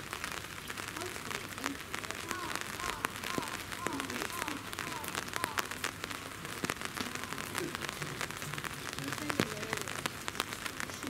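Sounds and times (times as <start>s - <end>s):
rain on hard surfaces: 0.0s - 11.0s.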